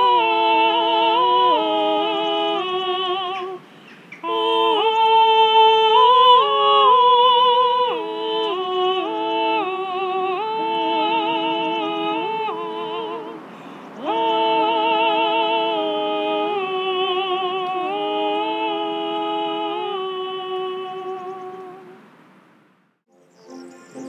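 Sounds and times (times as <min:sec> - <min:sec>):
women singing in harmony: 0:00.0 - 0:22.0.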